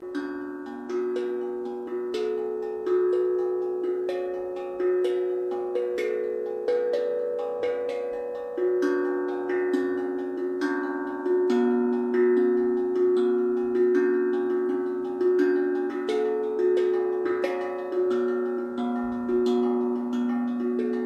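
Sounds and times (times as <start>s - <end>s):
bell-like instrument melody: 0.0s - 21.0s.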